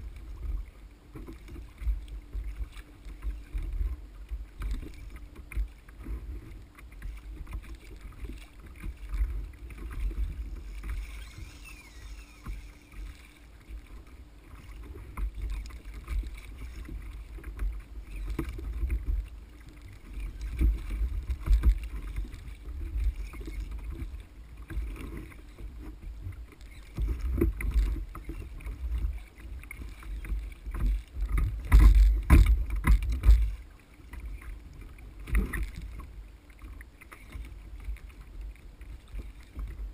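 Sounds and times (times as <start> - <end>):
water slapping against hull: 0.0 - 39.9.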